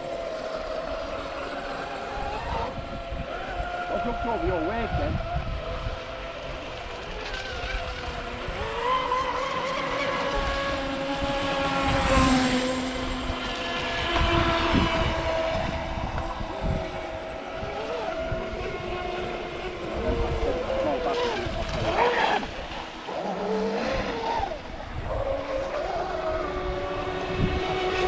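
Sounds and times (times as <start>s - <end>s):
model boat motors whining: 0.0s - 28.0s.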